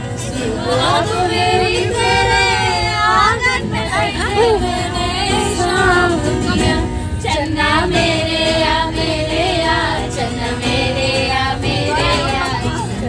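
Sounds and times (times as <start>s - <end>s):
voices singing with accompaniment: 0.0s - 13.0s.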